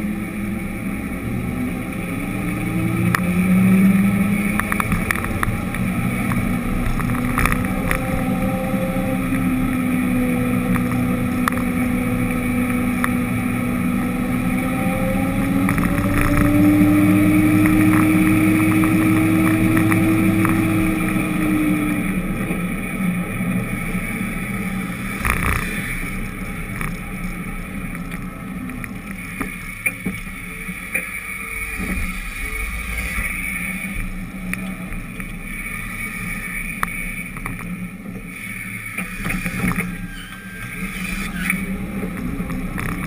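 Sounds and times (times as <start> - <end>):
tyre and road noise: 0.0 - 43.0
vehicle engine running: 0.0 - 43.0.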